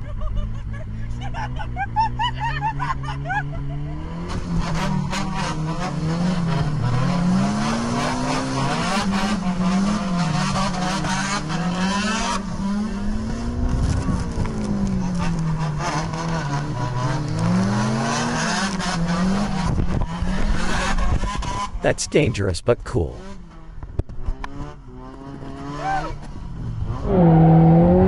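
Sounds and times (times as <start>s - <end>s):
car engine revving hard: 4.0s - 21.8s, 23.2s - 28.0s.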